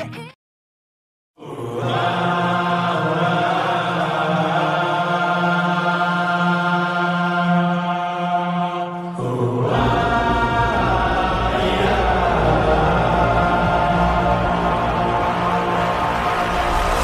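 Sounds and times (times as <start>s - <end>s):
chant-like droning chord: 1.4s - 17.0s.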